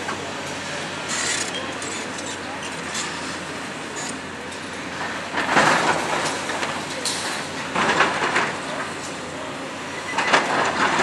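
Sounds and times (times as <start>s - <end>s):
excavator running: 0.0s - 11.0s.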